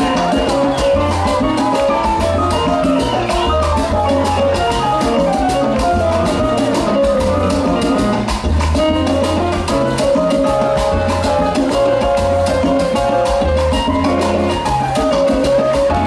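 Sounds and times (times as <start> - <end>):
live salsa band playing: 0.0 - 16.0
percussion with steady beat: 0.0 - 16.0
piano chords: 0.0 - 16.0.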